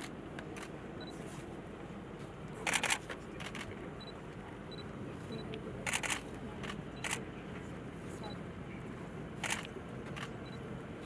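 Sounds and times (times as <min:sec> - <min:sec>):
low background murmur: 0:00.0 - 0:11.0.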